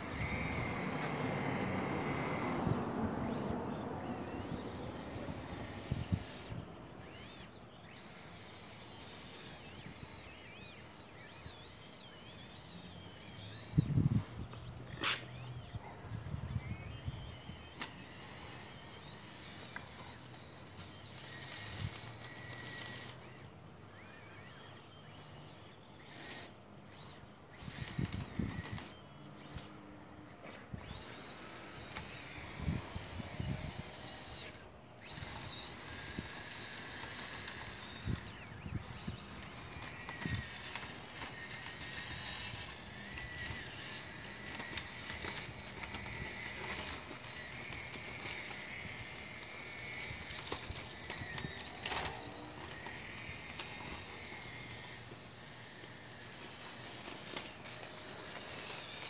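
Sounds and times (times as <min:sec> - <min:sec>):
model excavator pump and motors whine: 0:00.0 - 0:59.0.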